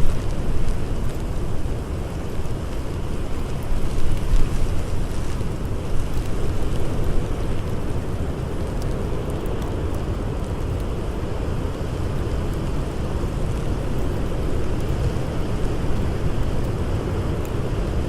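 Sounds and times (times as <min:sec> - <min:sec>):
blizzard wind blowing: 0:00.0 - 0:18.0
wood fire crackling: 0:00.0 - 0:18.0.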